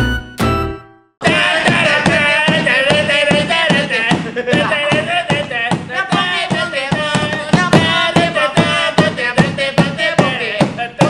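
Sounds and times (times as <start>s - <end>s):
steady drum beat: 0.4s - 11.0s
person singing: 1.2s - 11.0s.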